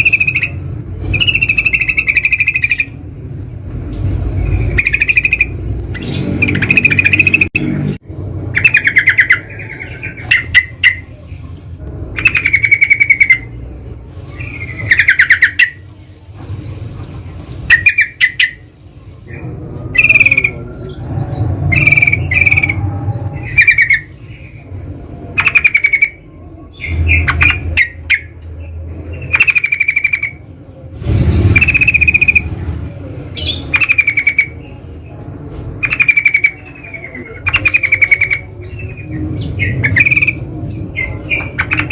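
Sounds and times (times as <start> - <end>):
birds chattering calls: 0.0 - 16.0, 17.6 - 41.9.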